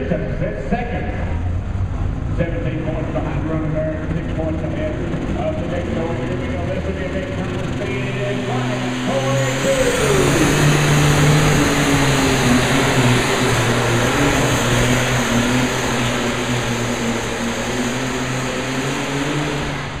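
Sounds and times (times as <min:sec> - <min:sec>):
tractor engine running flat out: 0:00.0 - 0:20.0.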